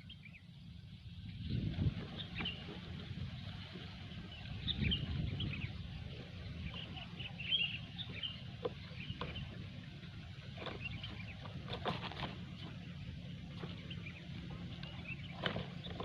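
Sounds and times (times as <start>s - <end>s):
bird chirping: 0.0s - 9.8s, 10.5s - 16.0s
low rumble: 0.0s - 16.0s.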